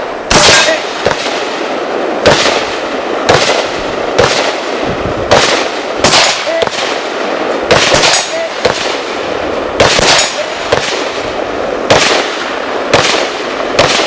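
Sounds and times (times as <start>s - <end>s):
rifle shots echoing: 0.0s - 14.0s.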